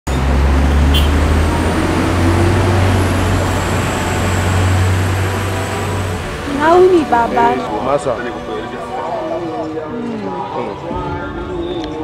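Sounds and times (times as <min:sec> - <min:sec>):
road traffic rumble: 0:00.1 - 0:10.0.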